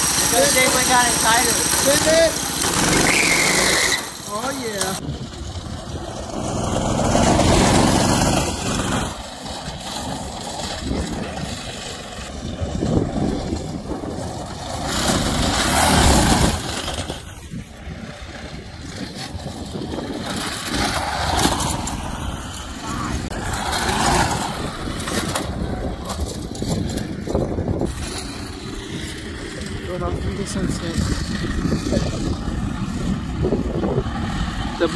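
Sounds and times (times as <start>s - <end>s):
small engines revving: 0.0s - 34.9s.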